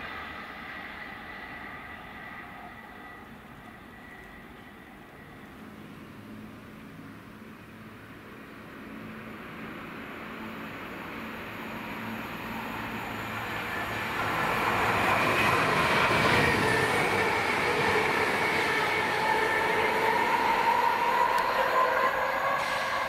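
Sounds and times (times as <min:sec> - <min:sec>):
train passing close by: 0:00.0 - 0:23.0
train whine: 0:00.0 - 0:23.0.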